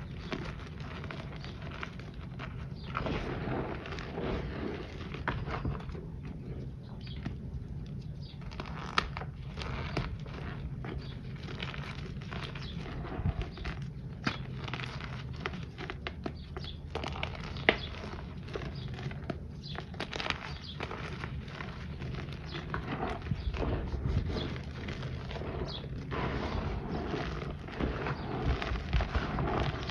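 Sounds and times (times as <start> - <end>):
hands crushing crunchy chunks: 0.0 - 29.9.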